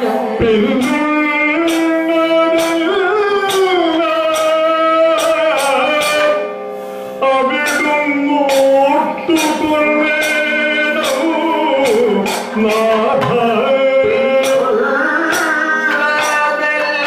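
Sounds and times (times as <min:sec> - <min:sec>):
man singing melismatic vocals: 0:00.0 - 0:17.0
regular struck drum beat: 0:00.4 - 0:06.5, 0:07.4 - 0:17.0.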